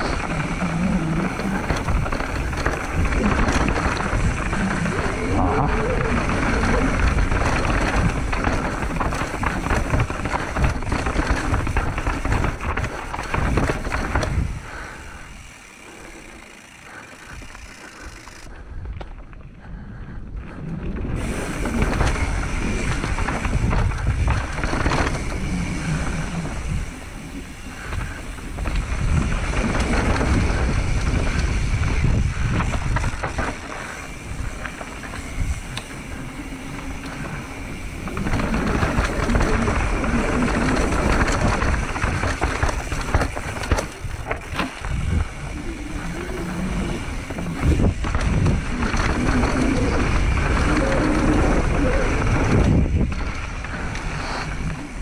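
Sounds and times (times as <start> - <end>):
wind on microphone: 0.0 - 15.4, 19.6 - 55.0
bike tyre and frame rattling: 0.0 - 55.0.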